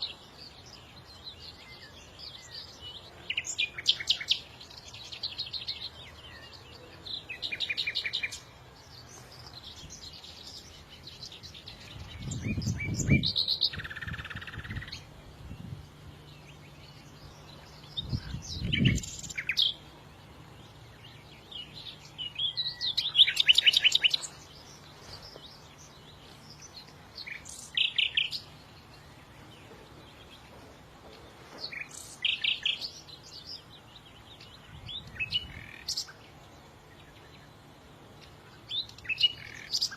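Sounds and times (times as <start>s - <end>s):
faint steady hum: 0.0s - 39.9s
songbird trilling and chirping: 0.0s - 39.9s.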